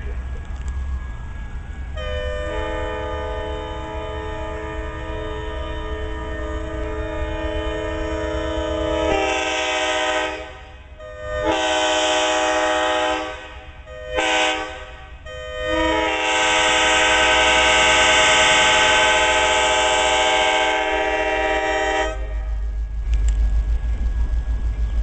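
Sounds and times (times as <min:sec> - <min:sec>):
low train rumble: 0:00.0 - 0:25.0
locomotive air horn blasts: 0:02.0 - 0:22.6.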